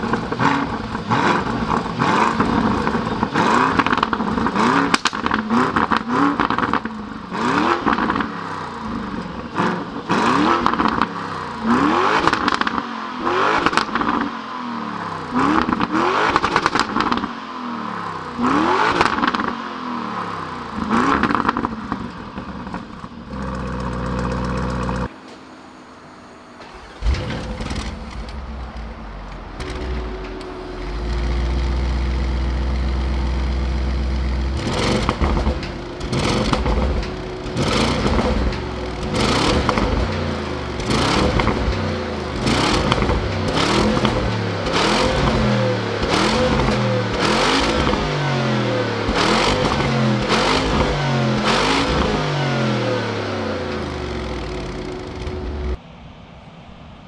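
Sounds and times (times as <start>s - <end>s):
engine idling: 0.0s - 12.6s, 21.6s - 55.8s
engine revving: 0.0s - 25.2s, 26.6s - 55.8s.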